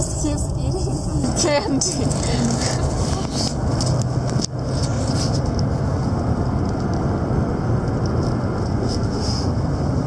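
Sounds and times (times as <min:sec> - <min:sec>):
road and engine noise in car: 0:00.0 - 0:10.0.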